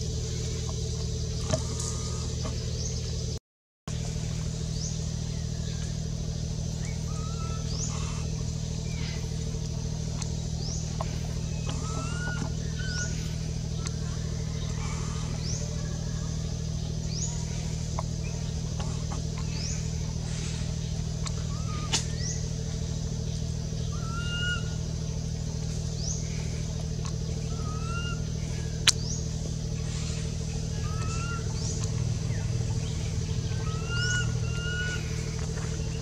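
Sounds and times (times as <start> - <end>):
lower whistled calls: 0.0 - 3.3, 4.3 - 36.0
low engine hum: 0.0 - 36.0.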